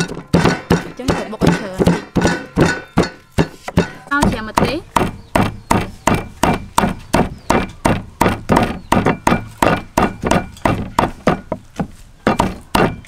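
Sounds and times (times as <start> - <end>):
cleaver chopping on block: 0.0 - 13.0.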